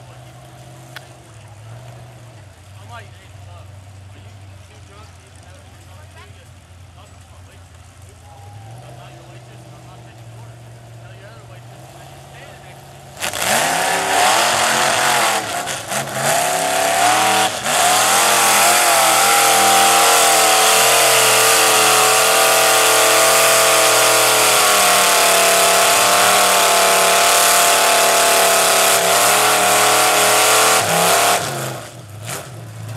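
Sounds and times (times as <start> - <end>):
tires spinning through mud: 0.0 - 32.9
truck engine revving: 0.0 - 32.9.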